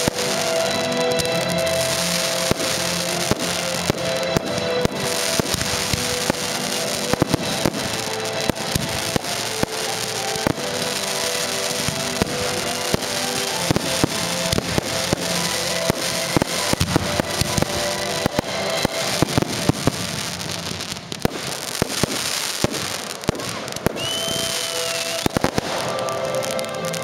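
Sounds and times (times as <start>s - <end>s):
fireworks bangs and crackles: 0.0s - 27.0s
music playing: 0.0s - 27.0s.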